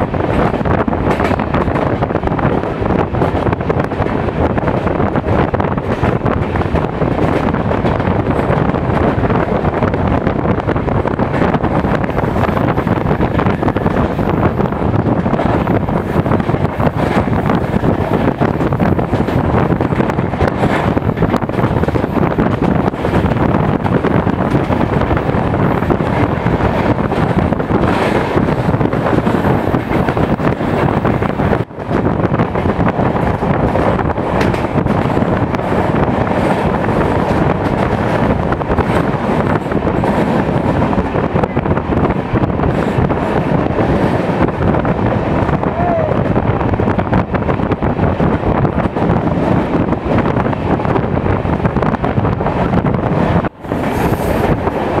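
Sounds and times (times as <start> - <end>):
train running rumble: 0.0 - 55.0
wind buffeting microphone: 0.0 - 55.0.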